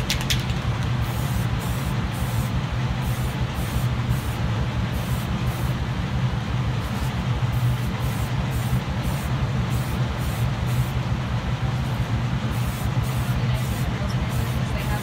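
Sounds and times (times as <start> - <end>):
aerosol can spraying: 0.0 - 5.8, 6.9 - 11.0, 12.4 - 15.0
ventilation fan humming: 0.0 - 15.0.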